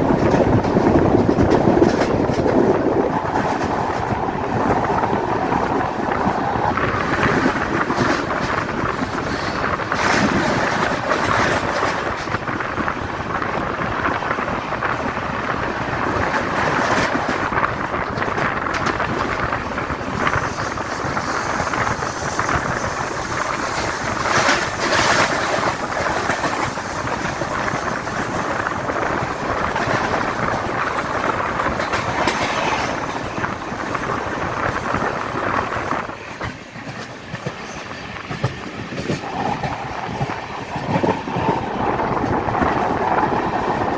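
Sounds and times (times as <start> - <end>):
train wheel and rail noise: 0.0 - 43.9.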